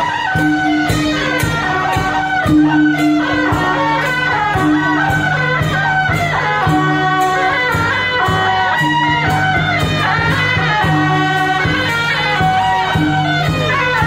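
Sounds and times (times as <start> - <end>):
drum beats: 0.0 - 14.0
gong and cymbal beats: 0.0 - 14.0
shrill reed horns melody: 0.0 - 14.0.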